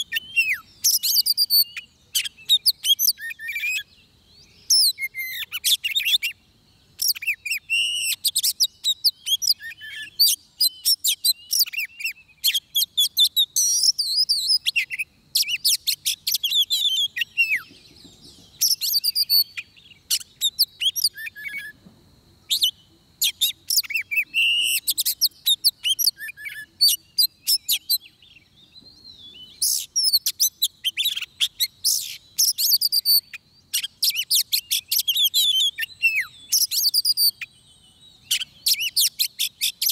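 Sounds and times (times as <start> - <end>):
bird singing whistled phrases: 0.0 - 6.4, 7.0 - 21.8, 22.5 - 39.9.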